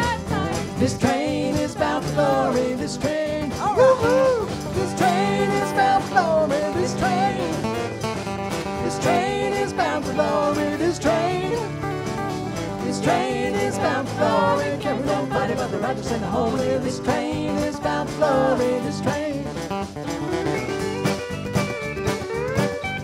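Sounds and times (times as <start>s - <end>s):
live band playing upbeat song: 0.0s - 23.0s.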